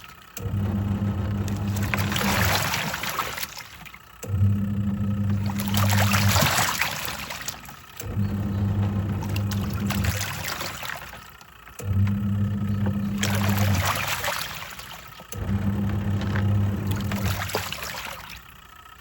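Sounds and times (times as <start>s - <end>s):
water sloshing: 0.0s - 18.8s
washing machine motor humming: 0.0s - 19.0s.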